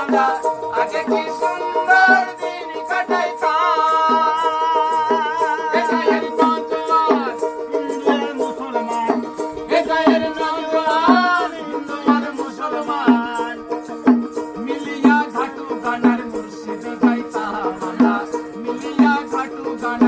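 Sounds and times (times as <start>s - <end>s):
steady percussion beat: 0.0s - 20.0s.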